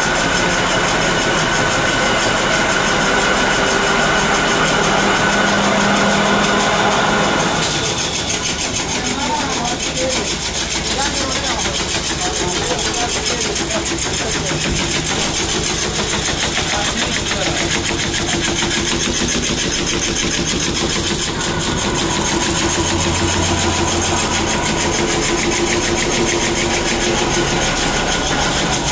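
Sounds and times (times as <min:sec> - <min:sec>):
machinery clattering: 0:00.0 - 0:28.9
steady machine hum: 0:00.0 - 0:28.9.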